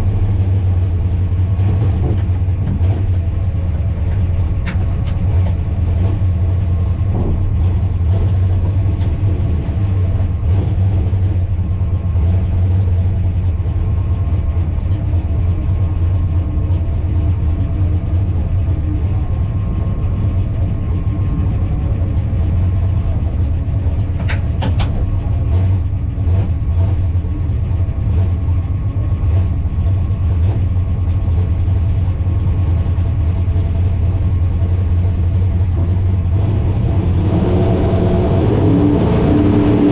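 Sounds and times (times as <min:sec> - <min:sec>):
engine running low rumble: 0:00.0 - 0:39.9.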